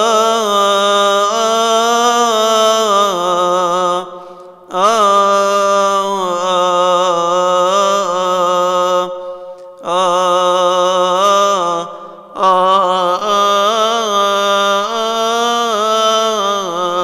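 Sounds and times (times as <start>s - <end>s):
man chanting a hymn: 0.0s - 17.0s.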